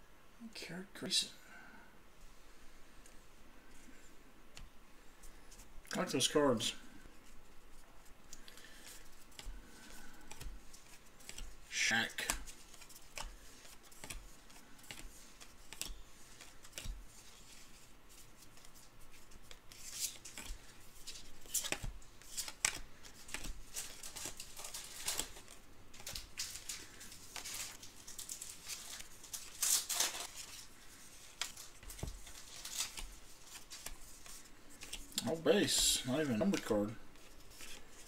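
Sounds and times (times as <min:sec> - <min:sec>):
trading cards being flipped: 0:07.2 - 0:38.0.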